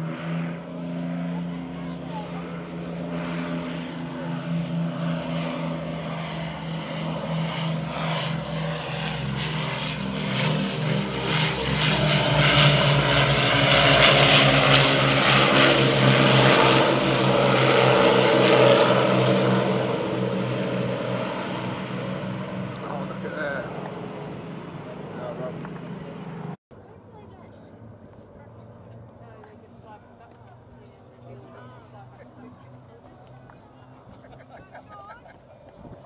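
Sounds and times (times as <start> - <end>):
propeller aircraft engines: 0.0 - 36.0.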